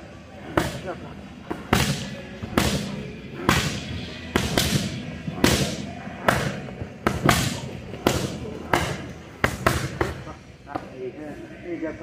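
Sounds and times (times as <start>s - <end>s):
boxing gloves punching focus mitts: 0.4s - 10.9s.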